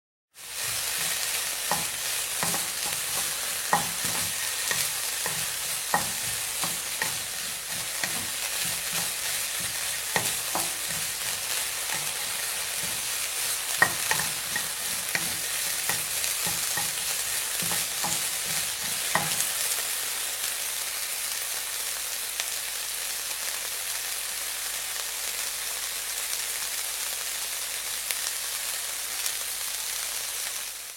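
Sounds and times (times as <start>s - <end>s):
food sizzling in deep fryer: 0.3s - 30.9s.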